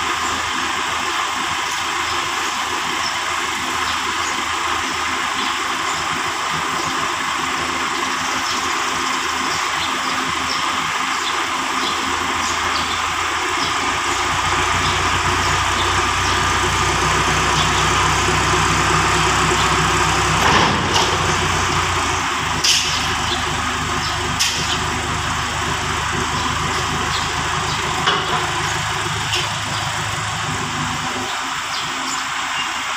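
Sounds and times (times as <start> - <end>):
diesel tractor engine running: 0.0 - 32.9.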